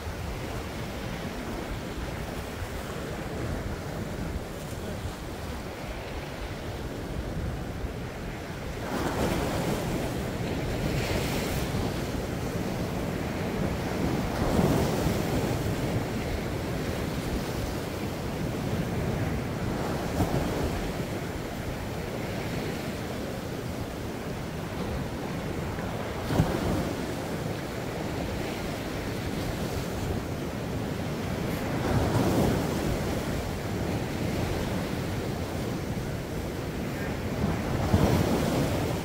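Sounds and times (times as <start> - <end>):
sea waves breaking: 0.0 - 39.0.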